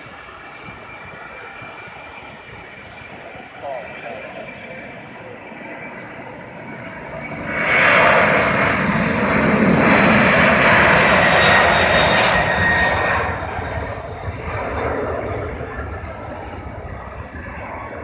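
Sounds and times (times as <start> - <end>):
high engine whine: 0.0 - 18.0
jet engines roaring: 0.0 - 18.0.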